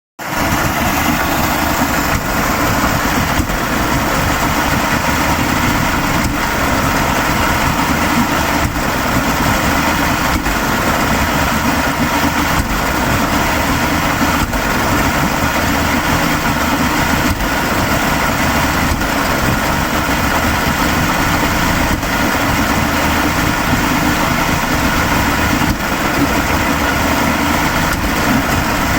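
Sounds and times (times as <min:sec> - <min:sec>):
outboard motor running: 0:00.2 - 0:28.9.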